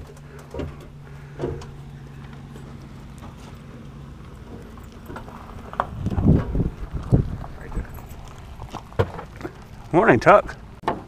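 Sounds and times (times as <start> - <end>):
steady low hum: 0.0 - 10.8
footsteps on gravel: 1.1 - 10.7.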